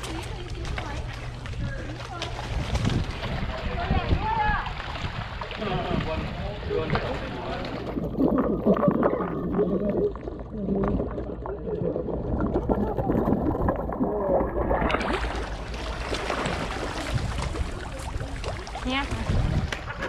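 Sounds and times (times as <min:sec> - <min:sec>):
fish splashing at water surface: 0:00.0 - 0:20.0.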